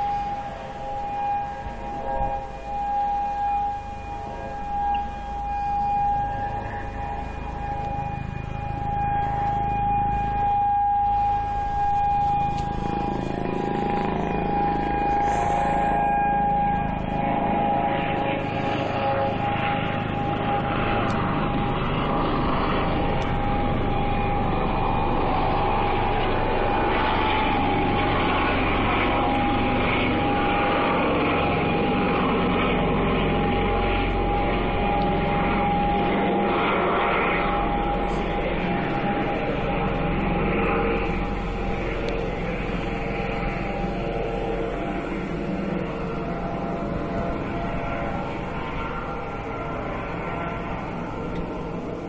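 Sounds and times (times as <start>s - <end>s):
siren steady tone: 0.0s - 52.0s.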